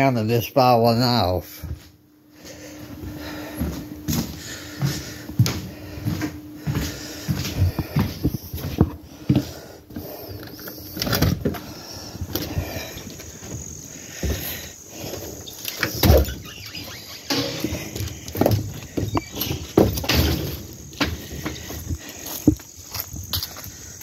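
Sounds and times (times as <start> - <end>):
footsteps: 1.6 - 24.0.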